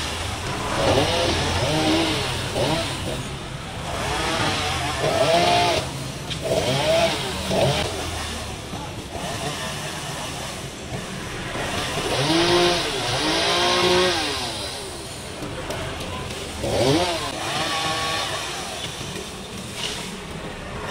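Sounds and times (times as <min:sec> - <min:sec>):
chainsaw idling and revving: 0:00.0 - 0:20.9.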